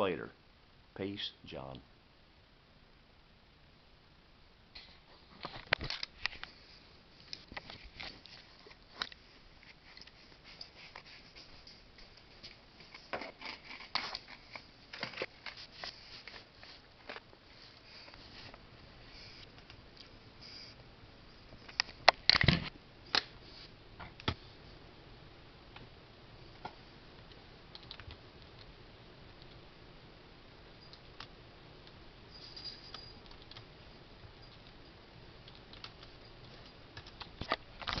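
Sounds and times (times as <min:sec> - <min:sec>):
low room noise: 0:00.0 - 0:38.0.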